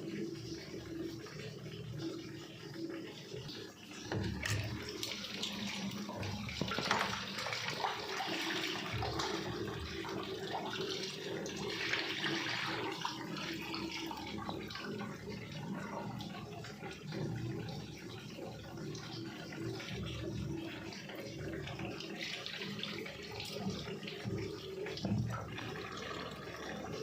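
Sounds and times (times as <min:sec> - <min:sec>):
water splashing in washing machine: 0:00.0 - 0:27.0.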